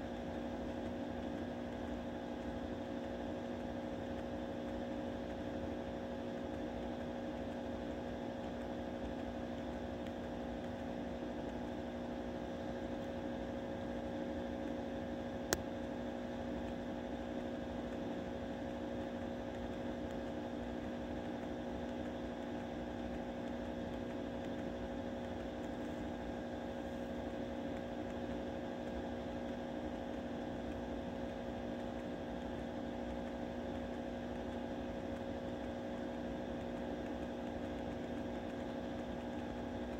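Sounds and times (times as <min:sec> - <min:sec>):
steady hum with fixed tones: 0:00.0 - 0:39.9.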